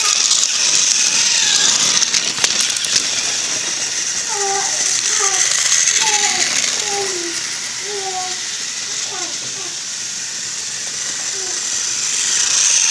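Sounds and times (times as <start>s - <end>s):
toy train clicks: 0.0s - 12.9s
toy train motor whirring rattle: 0.0s - 12.9s.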